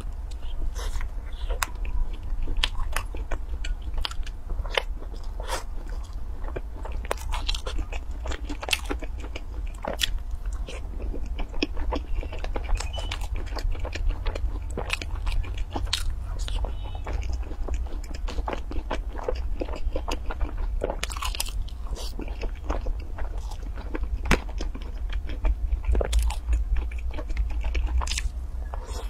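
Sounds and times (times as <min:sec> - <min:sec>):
chewing crackles and smacks: 0:00.0 - 0:29.0
steady low hum: 0:00.0 - 0:29.0.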